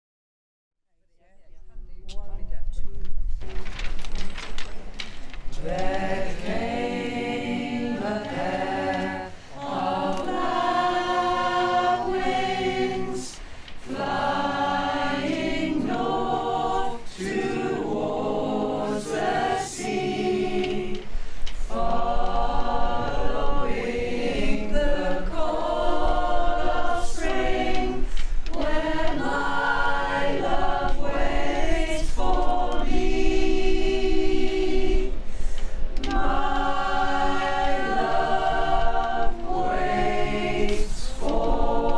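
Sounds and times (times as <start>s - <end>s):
choir singing: 5.5s - 41.9s.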